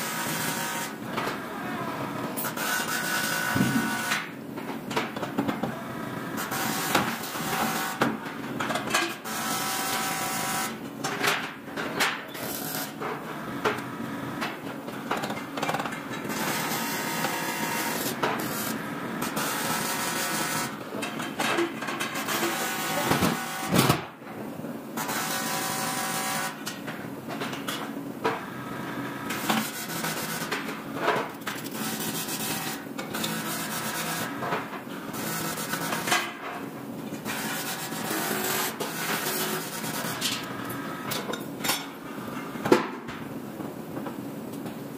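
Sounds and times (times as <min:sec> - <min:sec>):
machine hum and hiss: 0:00.0 - 0:44.9.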